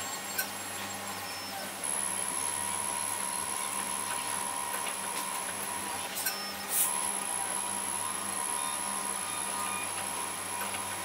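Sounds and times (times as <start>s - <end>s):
key cutting machine motors whining: 0.0s - 11.0s.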